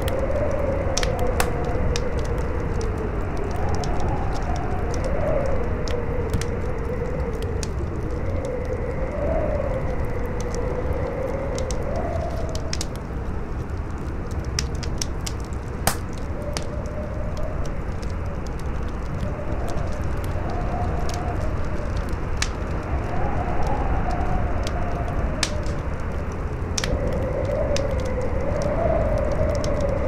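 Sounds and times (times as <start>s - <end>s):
campfire crackling and popping: 0.0s - 30.0s
howling wind: 0.0s - 30.0s.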